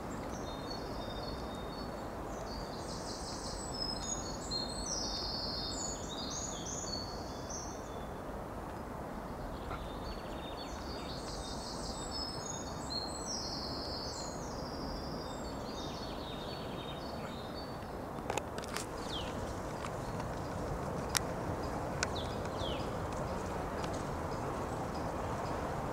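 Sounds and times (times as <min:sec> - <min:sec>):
songbird singing: 0:00.0 - 0:25.9.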